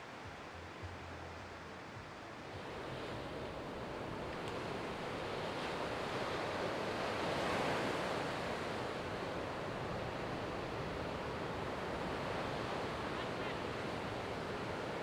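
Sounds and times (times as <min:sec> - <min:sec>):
ocean surf breaking: 0:02.6 - 0:15.0.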